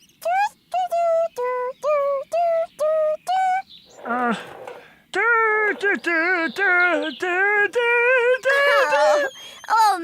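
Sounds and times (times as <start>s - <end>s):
cartoon character singing: 0.2s - 4.4s, 5.2s - 10.0s.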